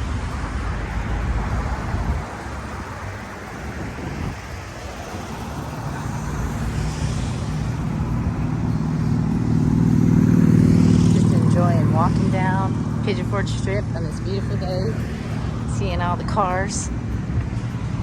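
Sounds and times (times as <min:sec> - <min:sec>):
car engine rumble: 0:00.0 - 0:18.0
cars passing: 0:00.0 - 0:18.0.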